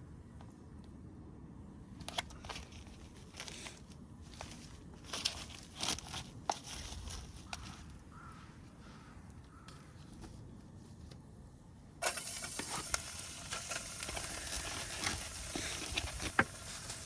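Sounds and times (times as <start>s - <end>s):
rustling and crinkling: 1.9s - 17.0s.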